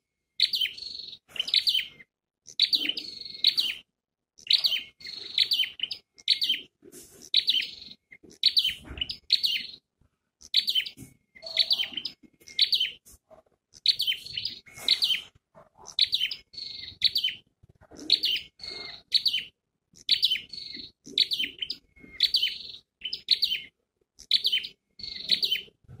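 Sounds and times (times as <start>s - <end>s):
bird chirping high and sharp: 0.4s - 13.0s, 13.8s - 25.8s.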